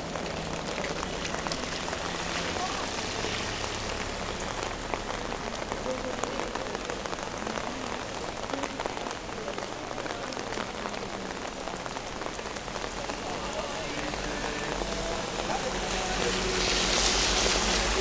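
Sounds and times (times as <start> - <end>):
close raindrop hits ticking: 0.0 - 18.0
heavy rain falling: 0.0 - 18.0.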